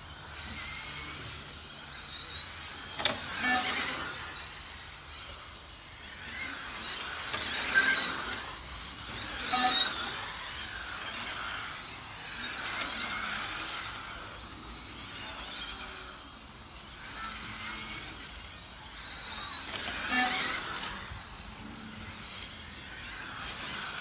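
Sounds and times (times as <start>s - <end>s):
rc car motors whining: 0.0s - 24.0s.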